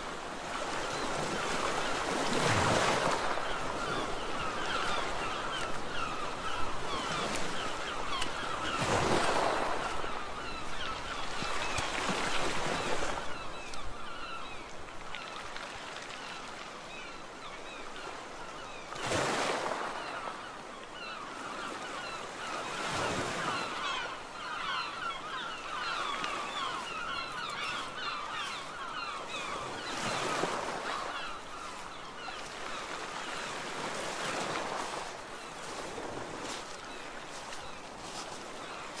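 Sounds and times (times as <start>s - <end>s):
sea waves washing onto beach: 0.0s - 17.8s, 22.0s - 39.0s.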